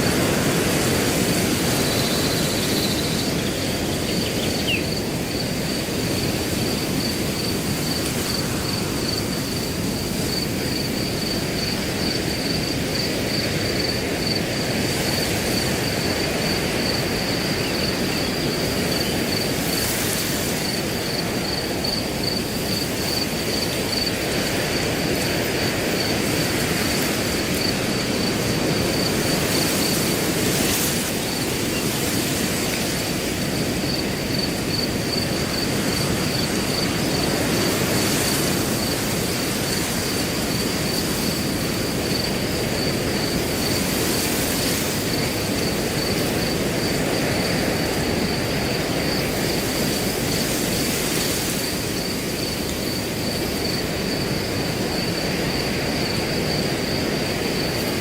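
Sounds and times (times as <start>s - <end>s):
cricket chirping: 0.0s - 58.0s
wind blowing through grass: 0.0s - 58.0s.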